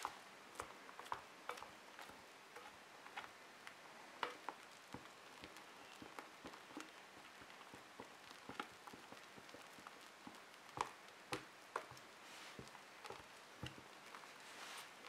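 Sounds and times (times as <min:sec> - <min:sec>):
spatula stirring slime in glass bowl: 0:00.0 - 0:03.4, 0:04.2 - 0:15.0.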